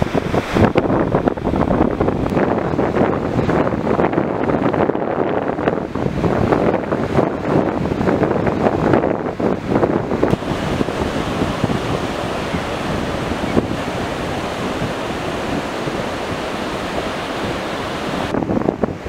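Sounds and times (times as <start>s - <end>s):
surf washing onto beach: 0.0s - 19.0s
wind on microphone: 0.0s - 19.0s.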